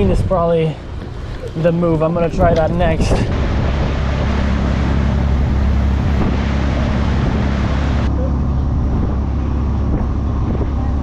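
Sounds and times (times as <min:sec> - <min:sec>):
boat engine drone: 0:00.0 - 0:11.0
rushing wake water: 0:00.0 - 0:11.0
water washing along hull: 0:00.8 - 0:11.0
wind on microphone: 0:01.8 - 0:11.0.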